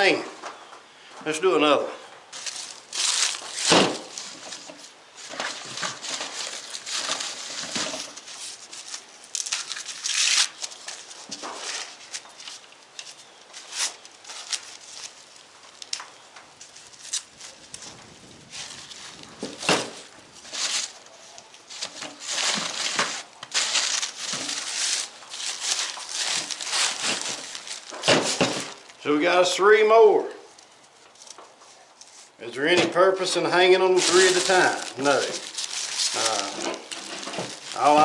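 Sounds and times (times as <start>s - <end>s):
dry corn husks rustling and tearing: 2.3s - 29.0s, 30.6s - 38.0s.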